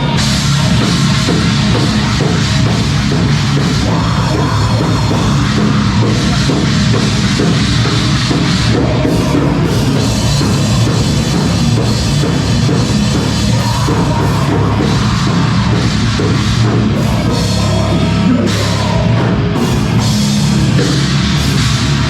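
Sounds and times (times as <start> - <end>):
live heavy rock band: 0.0 - 22.0
pounding drum kit: 0.0 - 22.0.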